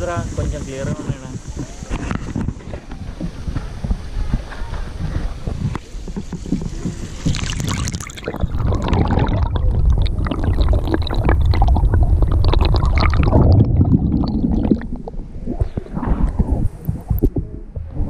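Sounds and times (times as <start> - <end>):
low underwater rumble: 0.0 - 18.0
underwater gurgling and sloshing: 0.0 - 18.0.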